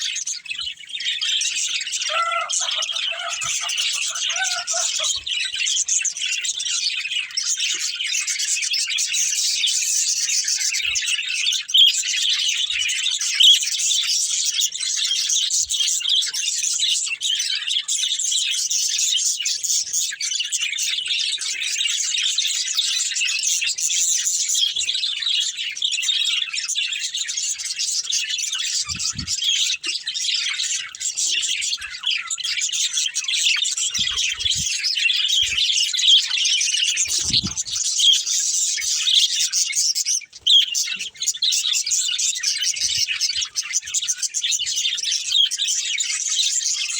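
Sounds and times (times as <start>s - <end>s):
budgerigars chattering and chirping: 0.0s - 46.9s.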